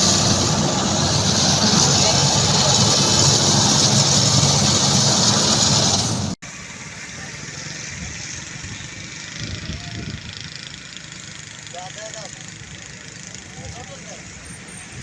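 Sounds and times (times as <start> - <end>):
construction machinery engine running: 0.0 - 15.0.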